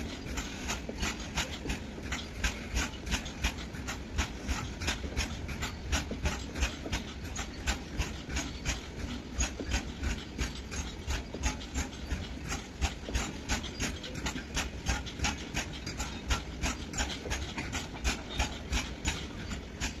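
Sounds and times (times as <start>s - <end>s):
low train rumble: 0.0s - 20.0s
train wheels clicking over rails: 0.0s - 20.0s.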